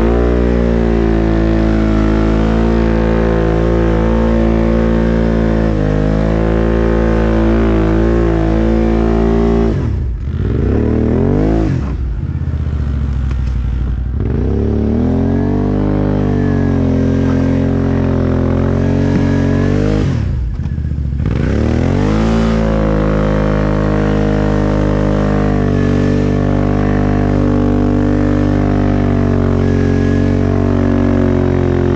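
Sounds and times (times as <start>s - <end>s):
atv engine revving under load: 0.0s - 31.9s.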